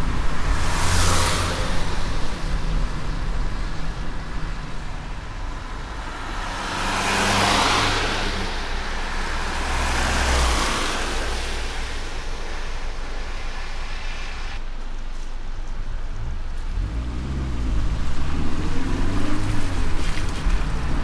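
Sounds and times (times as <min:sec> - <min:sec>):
low engine hum: 0:00.0 - 0:21.0
tyres on wet road: 0:00.0 - 0:21.0.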